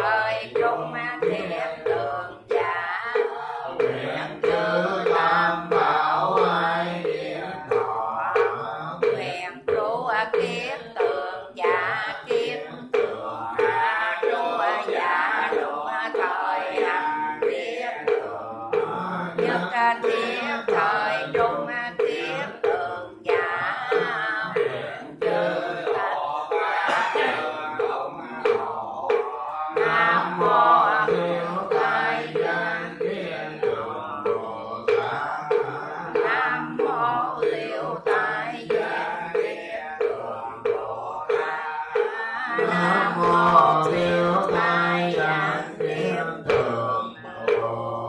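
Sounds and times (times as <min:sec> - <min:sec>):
prayers chanted in sing-song melody: 0:00.0 - 0:48.0
steady beat strokes: 0:00.0 - 0:48.0.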